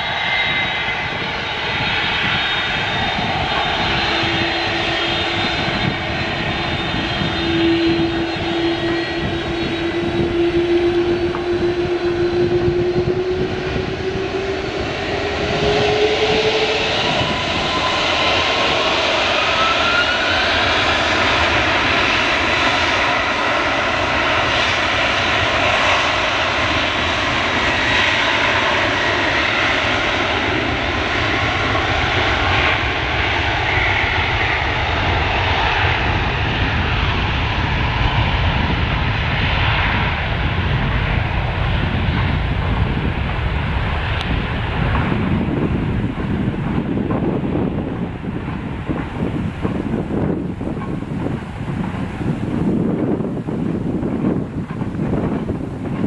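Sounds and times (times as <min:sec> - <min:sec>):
higher jet engine whine: 0:00.0 - 0:56.0
jet engines rushing and whining: 0:00.0 - 0:56.0.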